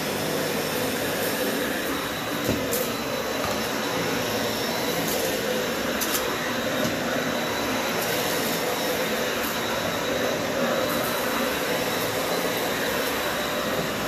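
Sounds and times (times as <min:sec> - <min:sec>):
vacuum cleaner running on carpet: 0:00.0 - 0:14.0.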